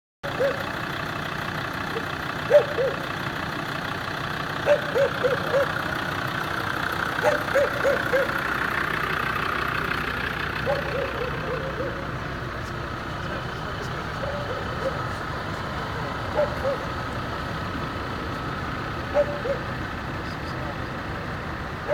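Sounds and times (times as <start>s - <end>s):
engine running at low revs: 0.2s - 21.9s.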